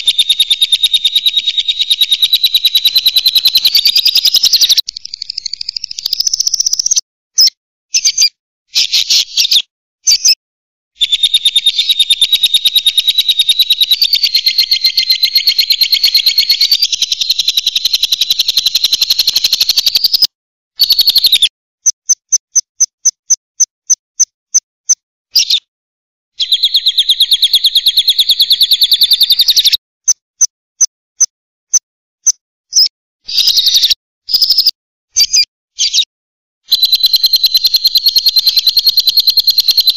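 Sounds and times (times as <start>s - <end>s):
bird chirping rapidly: 0.0s - 10.4s, 11.0s - 24.3s, 24.9s - 25.7s, 26.4s - 30.2s, 32.2s - 36.1s, 36.7s - 39.9s.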